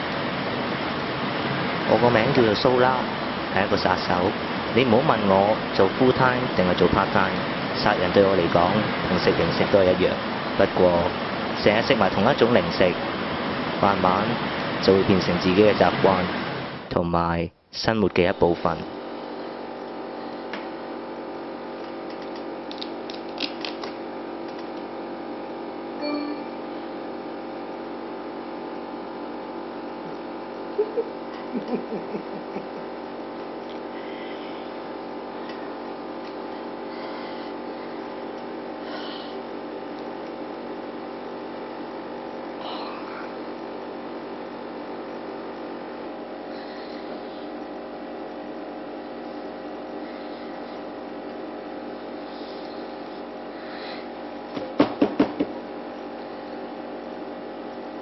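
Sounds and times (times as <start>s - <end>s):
electrical hum of held tones: 0.0s - 58.0s.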